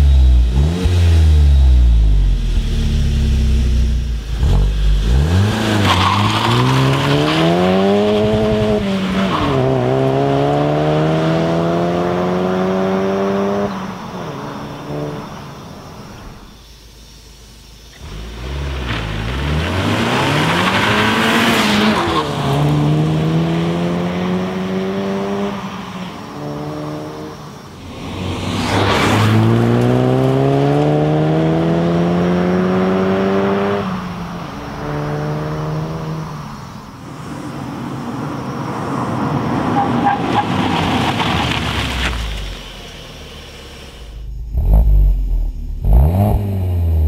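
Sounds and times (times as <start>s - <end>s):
car engine accelerating: 0.0s - 16.8s, 17.6s - 37.0s, 38.4s - 47.0s.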